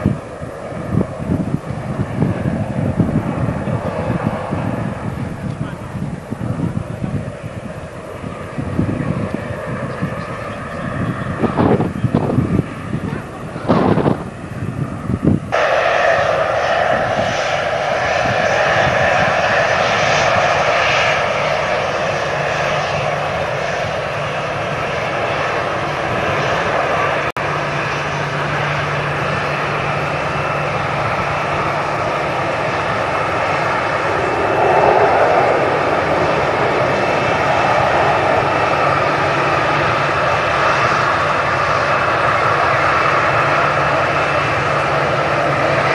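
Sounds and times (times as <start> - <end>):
airliner engines roaring: 0.0 - 45.9.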